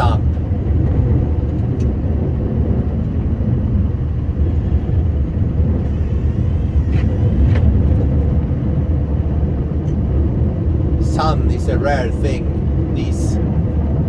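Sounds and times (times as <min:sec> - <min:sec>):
road noise: 0:00.0 - 0:14.0
truck diesel engine rumbling: 0:00.0 - 0:14.0.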